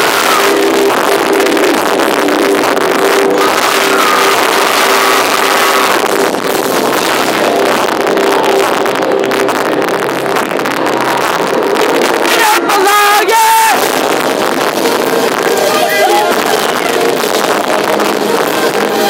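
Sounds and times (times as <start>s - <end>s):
distorted electric guitars: 0.0s - 19.0s
drums: 0.0s - 19.0s.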